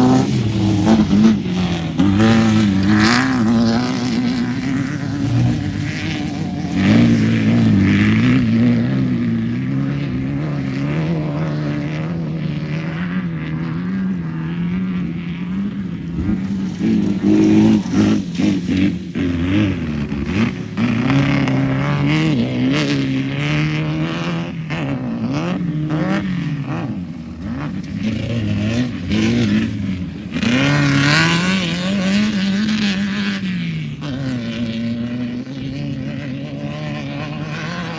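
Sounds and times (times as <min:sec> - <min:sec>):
race vehicle engine revving: 0:00.0 - 0:37.9.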